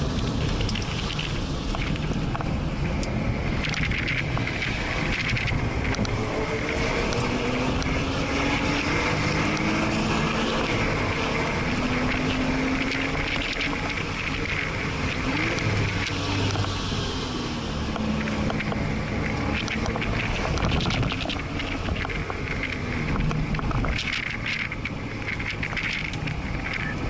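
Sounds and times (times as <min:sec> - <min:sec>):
car engine revving in cabin: 0:00.0 - 0:27.0
road and wind noise: 0:00.0 - 0:27.0.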